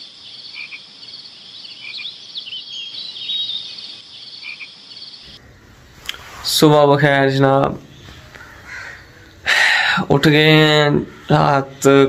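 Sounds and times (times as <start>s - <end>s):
chirping calls: 0.0s - 6.2s, 7.8s - 12.0s
frogs: 0.0s - 6.2s, 7.8s - 12.0s.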